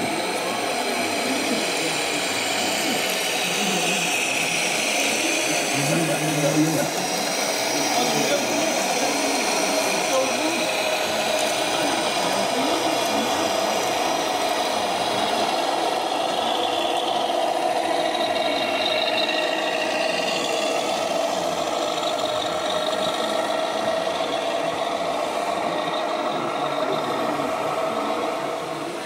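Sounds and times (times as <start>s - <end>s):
model truck motor drone: 0.0s - 29.0s.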